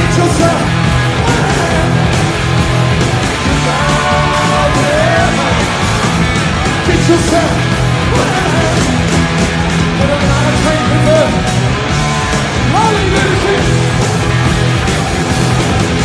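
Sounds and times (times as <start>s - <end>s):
live southern rock band: 0.0s - 16.0s.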